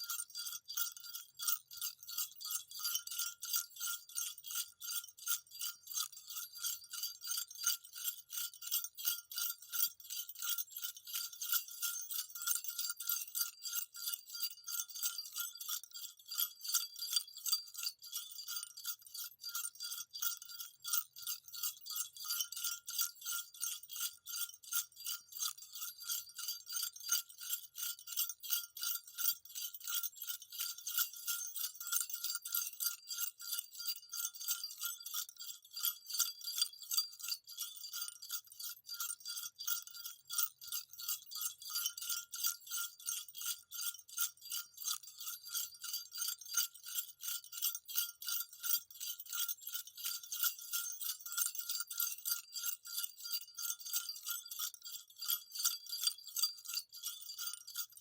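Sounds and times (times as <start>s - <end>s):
jingle bells shaken: 0.0s - 58.0s.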